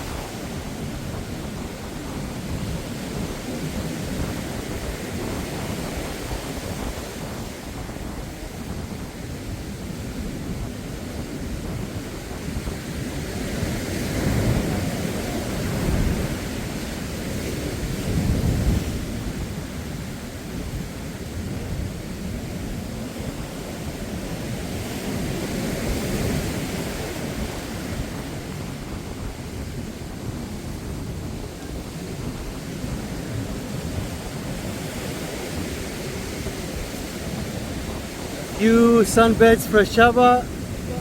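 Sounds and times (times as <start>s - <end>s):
surf breaking on beach: 0.0s - 41.0s
wind on microphone: 0.0s - 41.0s.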